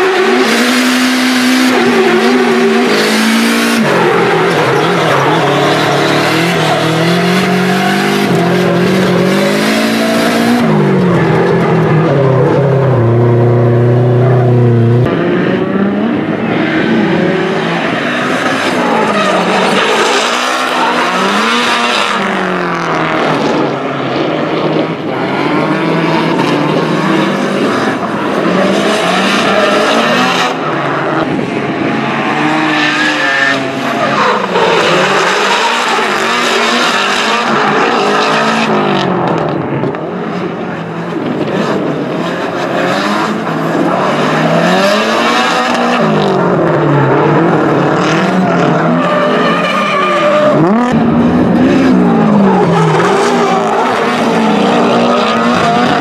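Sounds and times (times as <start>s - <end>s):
tyres squealing and skidding: 0.0s - 13.1s, 16.4s - 24.1s, 25.1s - 38.9s, 42.2s - 56.0s
car engines revving: 0.0s - 56.0s.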